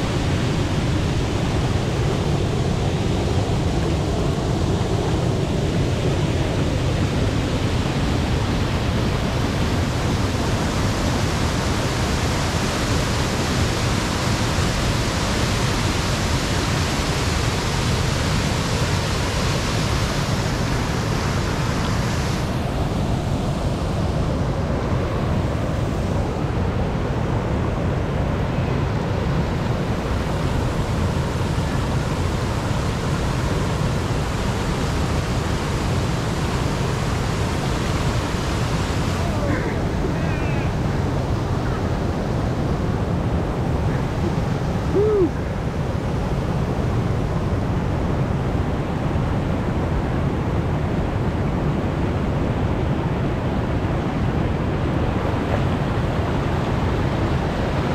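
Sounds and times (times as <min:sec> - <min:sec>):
waterfall rushing over rocks: 0:00.0 - 0:57.9.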